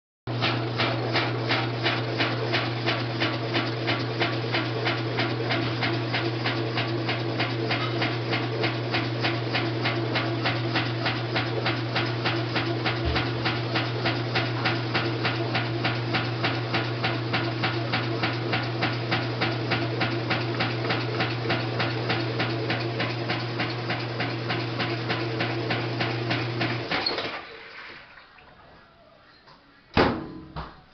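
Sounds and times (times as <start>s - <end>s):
washing machine spinning: 0.3s - 30.6s.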